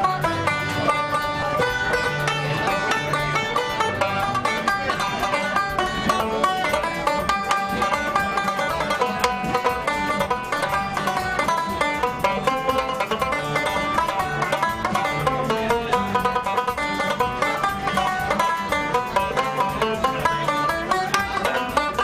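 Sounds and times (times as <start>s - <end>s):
acoustic guitar bass notes: 0.0s - 22.0s
plucked banjo notes: 0.0s - 22.0s.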